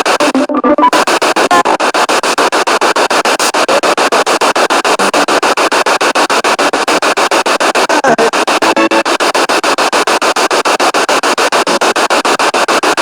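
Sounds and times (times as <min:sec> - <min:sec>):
choppy radio static: 0:00.0 - 0:13.0
radio sound fragments: 0:00.0 - 0:13.0.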